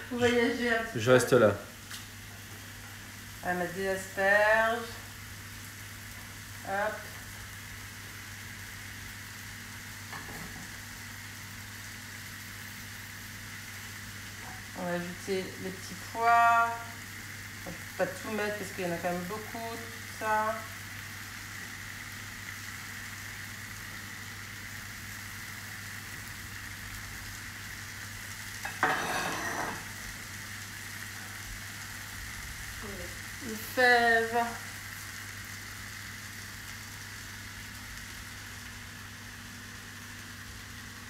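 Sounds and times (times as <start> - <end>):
vegetables sizzling in skillet: 0.0 - 41.0.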